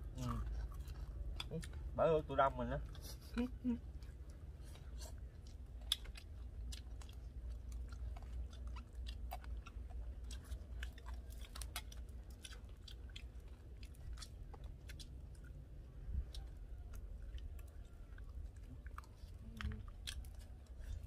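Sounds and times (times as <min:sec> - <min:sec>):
low steady hum: 0:00.0 - 0:21.0
person chewing crisp food: 0:00.0 - 0:21.0.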